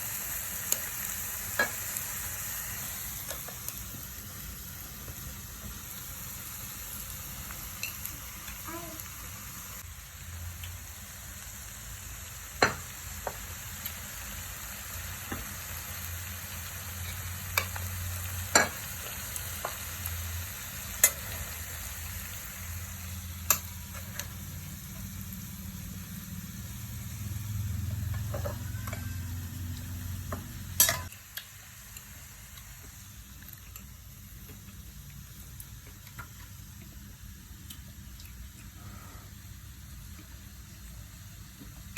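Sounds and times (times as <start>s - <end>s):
food sizzling in a pan: 0.0s - 41.9s.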